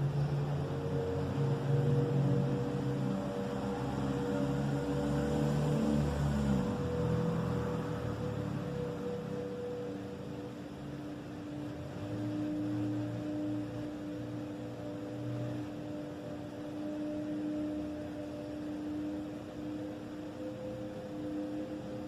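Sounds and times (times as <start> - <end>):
low droning hum: 0.0 - 22.0.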